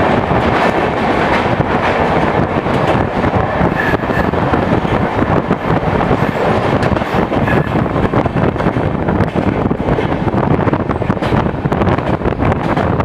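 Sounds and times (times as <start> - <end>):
train coaches rumbling: 0.0 - 13.0
wind buffeting microphone: 0.0 - 13.0.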